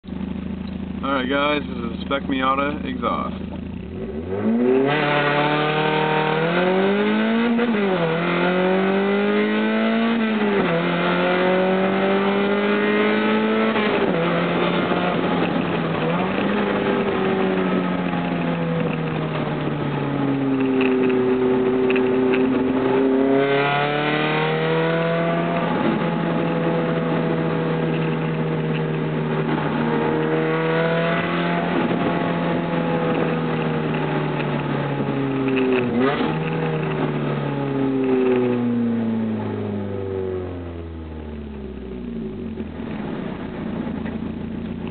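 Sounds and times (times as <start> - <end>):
car engine accelerating hard: 0.1 - 44.9.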